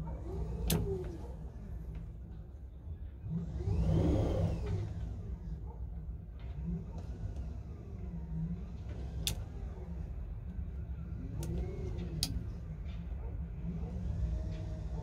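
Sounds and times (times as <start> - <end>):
boat motor and water rumble: 0.0 - 15.0.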